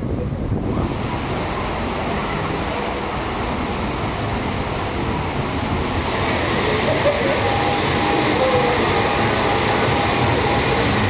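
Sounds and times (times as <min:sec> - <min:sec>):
water rushing and falling: 0:00.0 - 0:11.0.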